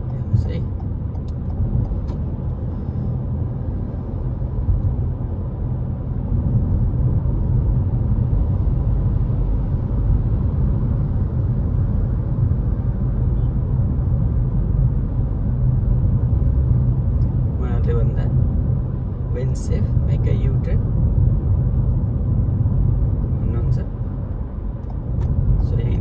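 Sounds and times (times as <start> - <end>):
car engine: 0.0 - 26.0
road and tyre noise: 0.0 - 26.0.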